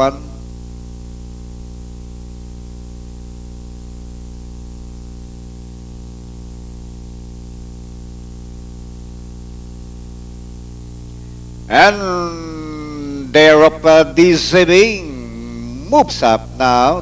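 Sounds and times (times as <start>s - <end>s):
constant hiss: 0.0s - 17.0s
electrical hum with overtones: 0.0s - 17.0s.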